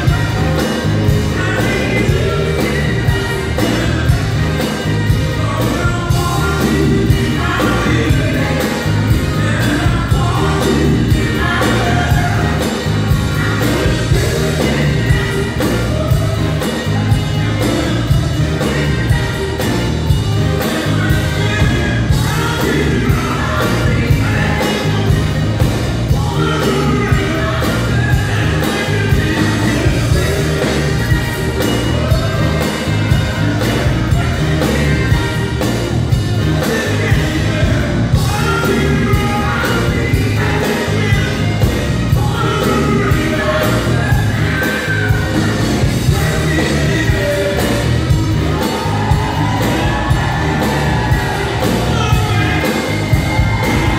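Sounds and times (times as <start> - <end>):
live pop band playing: 0.0 - 53.9
man singing: 0.0 - 53.9.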